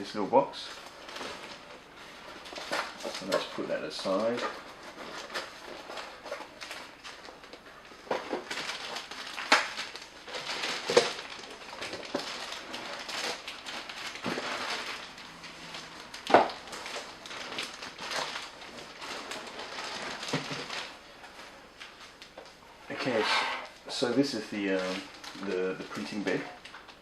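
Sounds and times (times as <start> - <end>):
packaging rustling and crinkling: 0.0 - 27.0.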